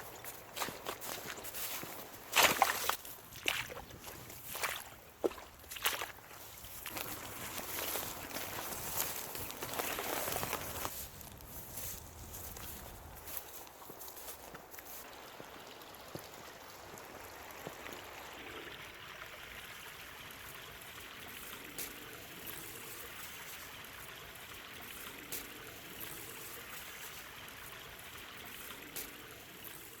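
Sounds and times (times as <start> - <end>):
water flowing: 0.0 - 10.9, 12.3 - 30.0.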